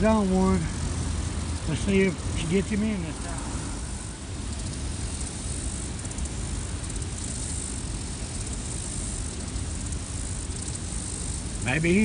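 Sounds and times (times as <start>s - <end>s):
faint pulsing insect chirps: 0.0s - 12.0s
low outdoor rumble: 0.0s - 12.0s.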